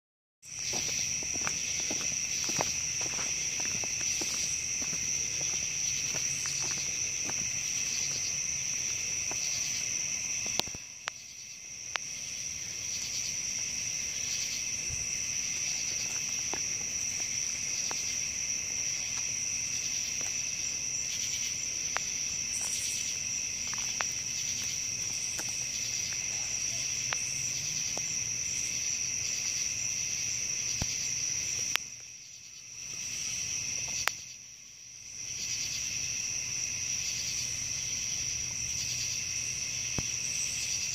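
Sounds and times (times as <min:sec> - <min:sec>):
crickets chirring: 0:00.4 - 0:40.9.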